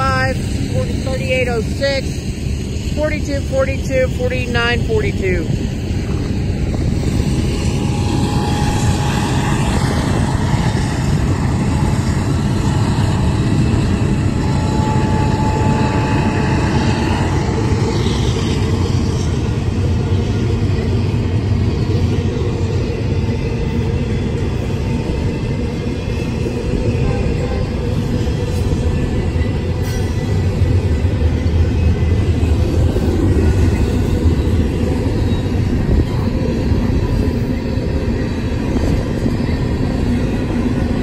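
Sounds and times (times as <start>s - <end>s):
train rumbling past: 0.0s - 41.0s.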